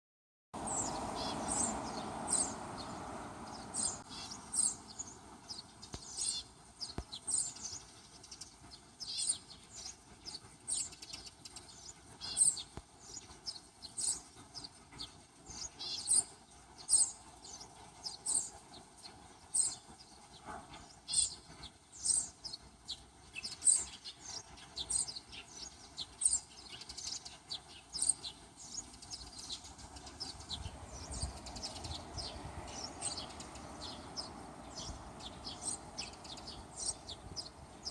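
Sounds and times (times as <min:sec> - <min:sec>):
small bird chirping: 0:00.6 - 0:37.9
steady rushing noise: 0:00.6 - 0:37.9.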